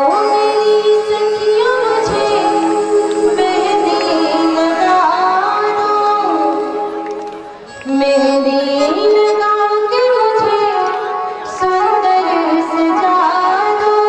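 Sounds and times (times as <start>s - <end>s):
sustained instrumental accompaniment: 0.0s - 13.5s
person singing: 0.0s - 14.0s.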